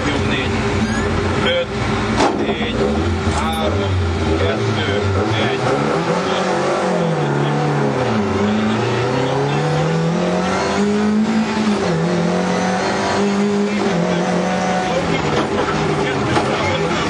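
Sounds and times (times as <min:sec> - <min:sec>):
rally car engine accelerating: 0:00.0 - 0:17.0
tyre and road noise: 0:00.0 - 0:17.0.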